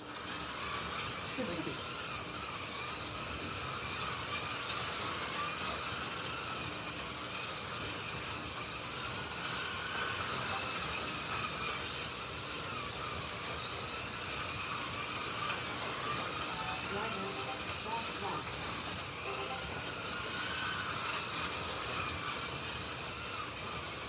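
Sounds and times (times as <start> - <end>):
slot car motors whining: 0.0 - 24.0.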